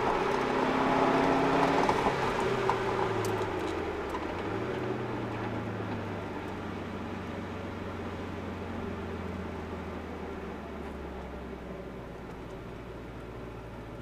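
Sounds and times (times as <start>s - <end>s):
car engine from inside cabin: 0.0s - 14.0s.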